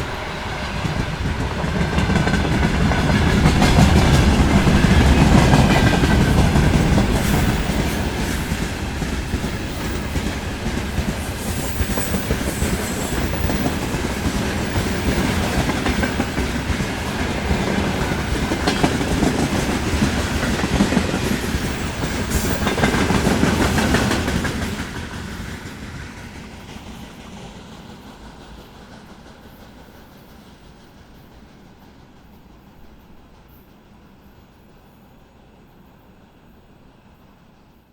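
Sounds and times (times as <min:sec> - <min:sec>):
train wheels clacking over rail joints: 0:00.0 - 0:33.8.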